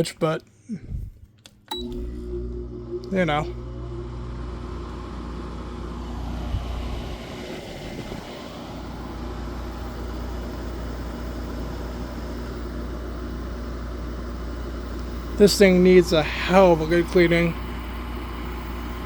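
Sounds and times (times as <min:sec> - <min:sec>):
air conditioner fan running: 0:00.0 - 0:19.0.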